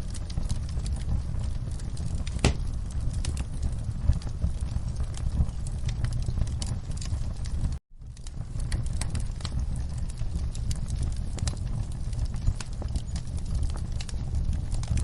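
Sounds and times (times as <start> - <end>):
fire crackling: 0.0 - 15.0
low rumble of flames: 0.0 - 15.0.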